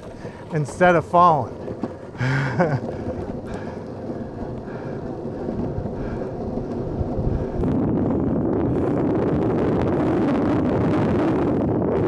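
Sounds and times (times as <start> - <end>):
skateboard wheels rolling on asphalt: 0.0 - 12.0
wind buffeting microphone: 0.0 - 12.0.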